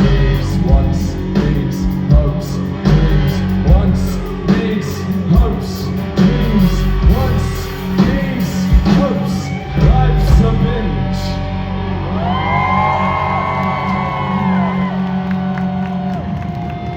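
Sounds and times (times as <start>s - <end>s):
rock band playing live: 0.0s - 16.9s.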